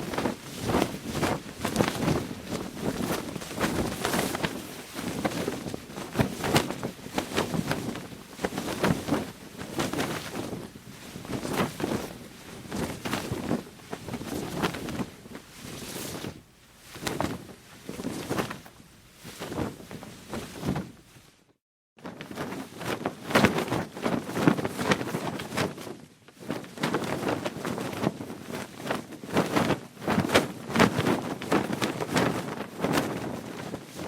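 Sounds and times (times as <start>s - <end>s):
fabric flapping: 0.0s - 34.0s.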